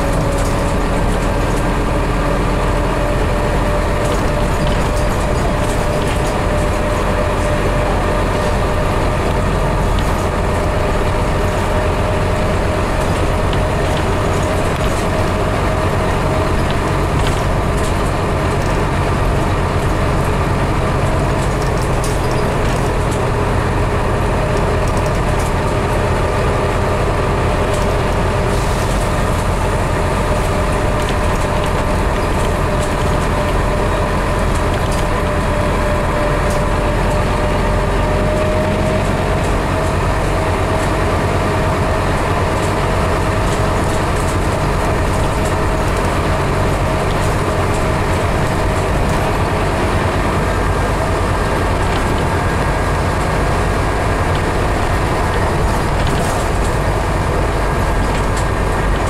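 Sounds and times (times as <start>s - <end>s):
bus engine and drivetrain rumble: 0.0s - 59.0s
road noise: 0.0s - 59.0s.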